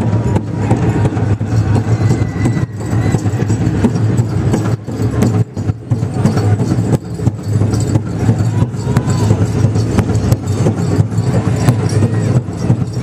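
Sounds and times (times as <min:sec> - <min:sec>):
large drum struck by drummers: 0:00.0 - 0:13.0.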